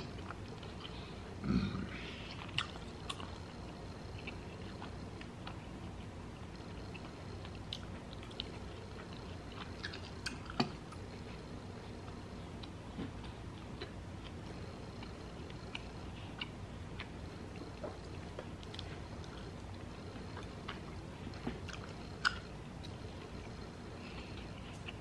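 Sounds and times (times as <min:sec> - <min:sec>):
person chewing: 0:00.0 - 0:01.3, 0:01.9 - 0:11.4, 0:12.0 - 0:25.0.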